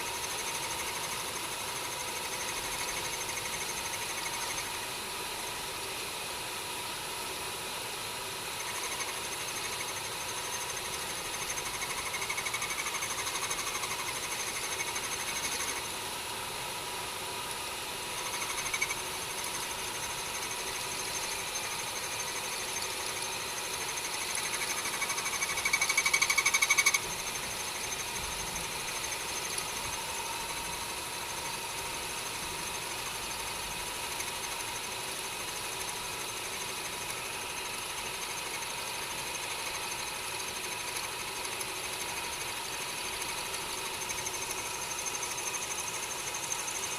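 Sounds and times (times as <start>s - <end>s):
lathe motor whine: 0.0s - 46.9s.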